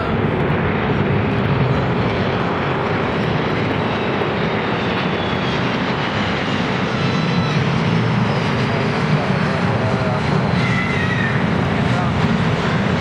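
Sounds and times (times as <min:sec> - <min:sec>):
faint high jet whine: 0:00.0 - 0:13.0
jet airliner rumble: 0:00.0 - 0:13.0.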